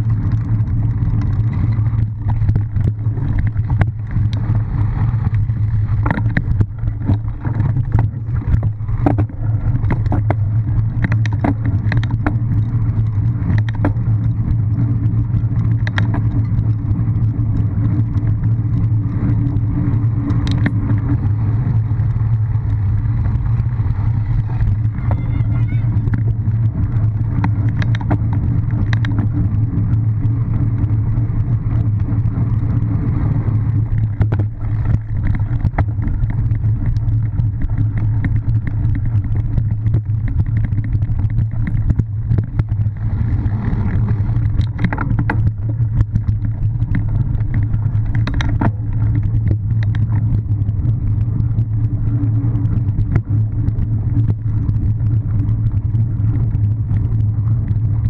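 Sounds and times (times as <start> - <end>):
bike knocks and rattles: 0.0 - 58.0
bike tyres on gravel: 0.0 - 58.0
wind rumble on microphone: 0.0 - 58.0.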